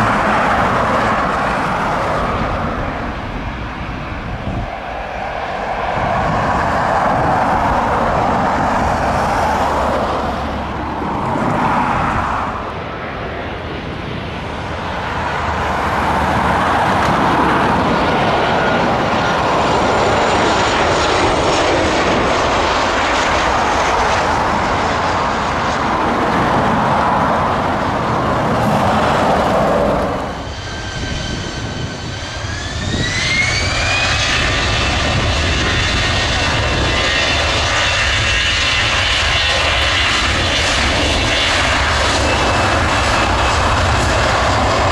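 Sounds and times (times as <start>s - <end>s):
jet engine whine: 0.0s - 44.9s
jet engines roaring: 0.0s - 44.9s.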